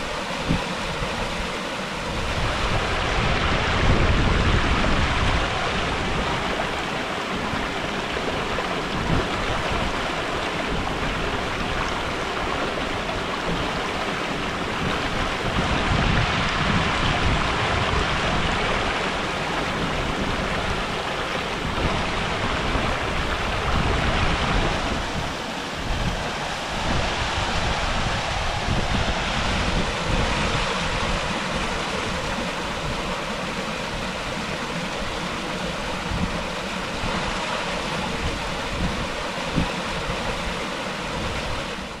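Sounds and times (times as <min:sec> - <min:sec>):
waterfall rushing: 0:00.0 - 0:42.0
wind buffeting the microphone: 0:00.0 - 0:42.0.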